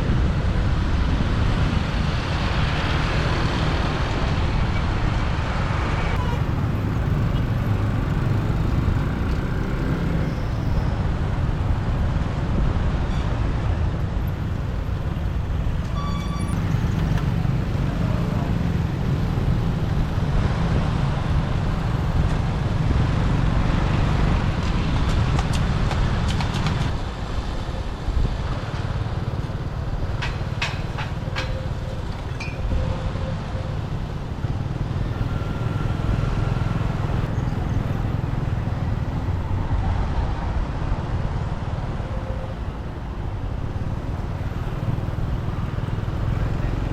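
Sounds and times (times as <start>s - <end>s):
motorbike engine and wind rumble: 0.0s - 46.9s.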